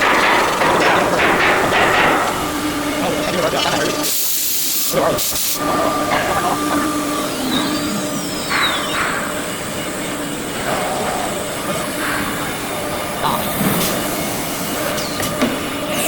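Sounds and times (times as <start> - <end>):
machine mechanical drone: 0.0 - 16.0.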